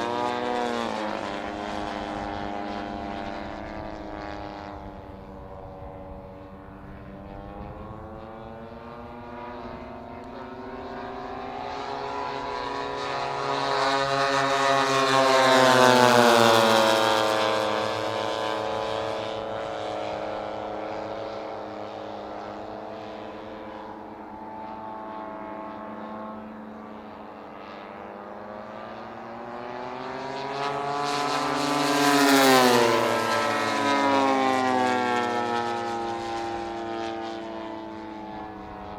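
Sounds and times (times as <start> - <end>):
model airplane propeller engine: 0.0 - 38.9.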